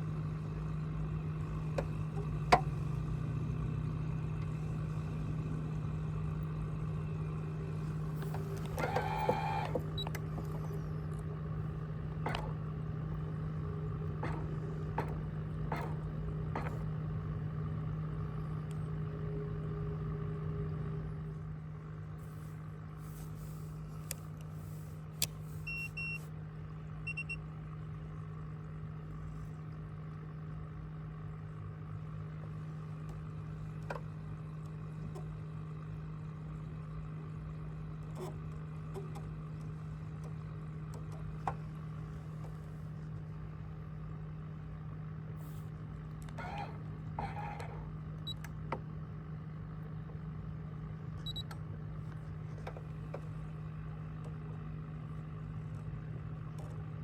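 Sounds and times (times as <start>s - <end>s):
boat motor humming: 0.0s - 26.1s, 28.6s - 57.0s.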